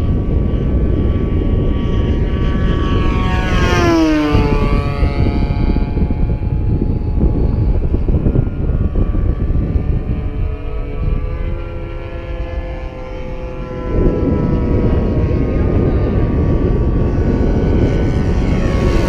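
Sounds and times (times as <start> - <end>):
model plane engines flying overhead: 0.0 - 19.0
wind rumble on microphone: 0.0 - 19.0.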